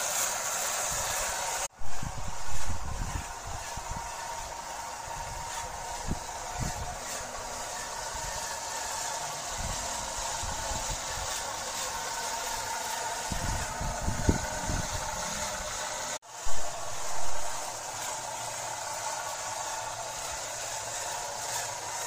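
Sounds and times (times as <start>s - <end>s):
toy truck motor whining hum: 0.0s - 22.0s.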